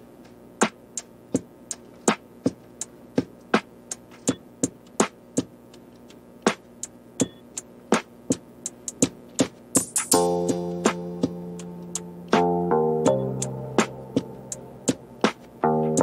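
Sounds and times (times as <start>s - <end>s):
drum machine beat: 0.2s - 16.0s.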